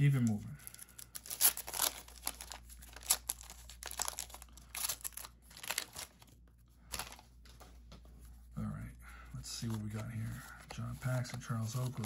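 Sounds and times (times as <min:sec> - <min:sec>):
paper wrapper crinkling and tearing: 0:00.0 - 0:07.3, 0:09.6 - 0:12.0.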